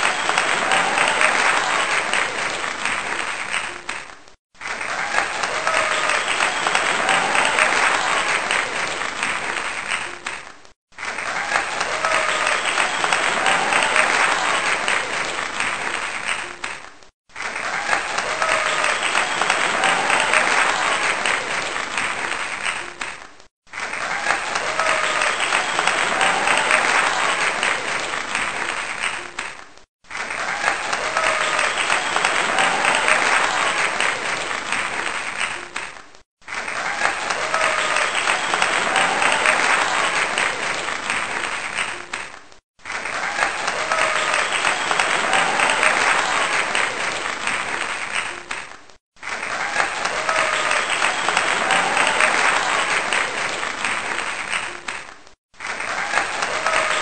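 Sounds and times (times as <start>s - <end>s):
audience applause: 0.0s - 57.0s.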